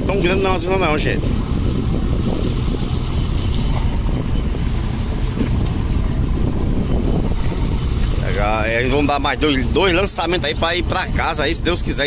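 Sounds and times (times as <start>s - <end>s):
boat diesel engine rumbling: 0.0s - 12.0s
sea noise: 0.0s - 12.0s
wind: 0.0s - 12.0s.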